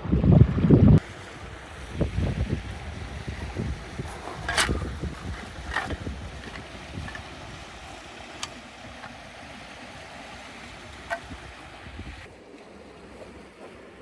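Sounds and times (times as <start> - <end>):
wind rumble on microphone: 0.0 - 14.0
lake water lapping: 1.0 - 14.0.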